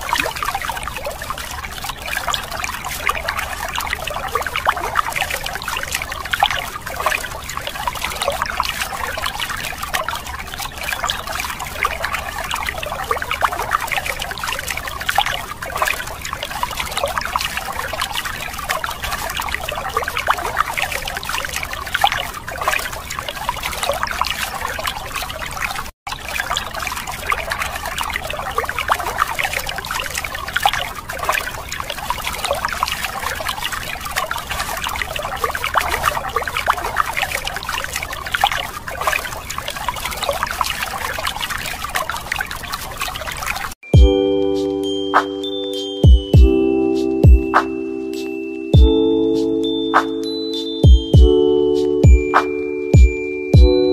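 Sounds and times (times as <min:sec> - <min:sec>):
water stream splashing on toys: 0:00.0 - 0:43.9.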